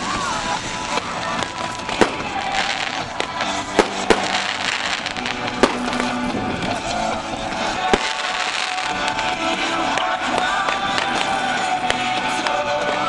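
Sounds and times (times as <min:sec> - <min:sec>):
background music: 0:00.0 - 0:13.0
fireworks bangs: 0:00.0 - 0:13.0.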